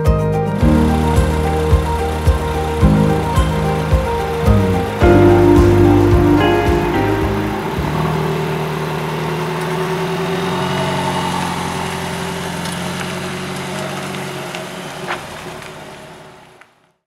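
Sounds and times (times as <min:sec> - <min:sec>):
car engine at low revs: 0:00.6 - 0:16.9.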